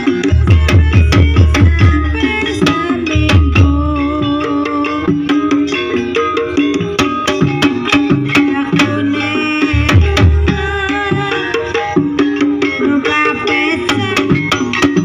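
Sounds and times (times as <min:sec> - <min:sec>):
hand drums: 0:00.0 - 0:15.0
ringing metallophone notes: 0:00.0 - 0:15.0.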